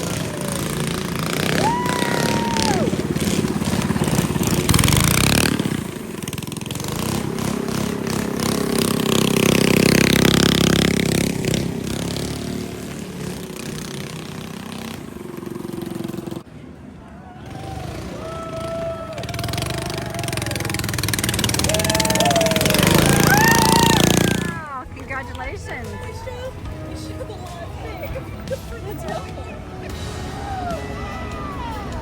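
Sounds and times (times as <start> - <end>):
vehicle engines passing: 0.0 - 32.0.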